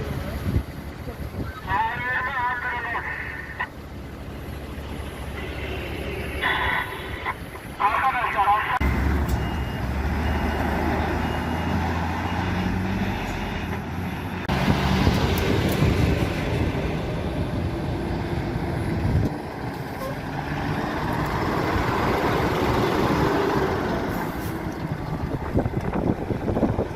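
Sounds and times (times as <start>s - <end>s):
heavy vehicle engine running: 0.0s - 26.9s.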